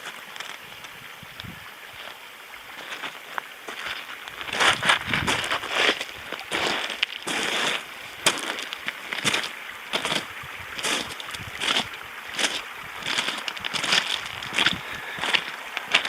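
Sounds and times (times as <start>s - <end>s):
crunching and crackling: 2.8s - 16.0s.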